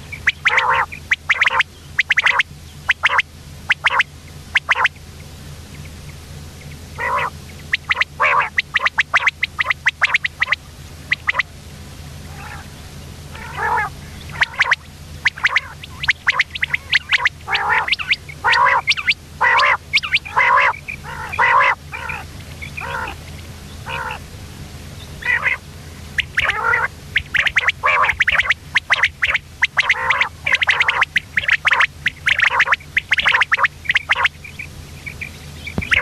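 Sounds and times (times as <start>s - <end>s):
quail calling: 0.0s - 11.6s, 12.2s - 24.3s, 25.0s - 36.0s
steady low hum: 0.0s - 36.0s.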